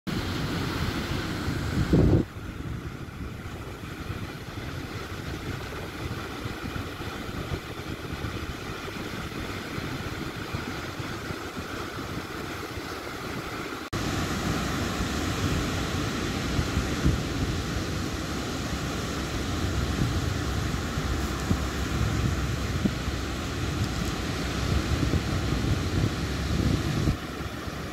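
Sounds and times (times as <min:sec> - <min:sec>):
sea surf breaking: 0:00.1 - 0:27.9
wind on microphone: 0:00.1 - 0:27.9.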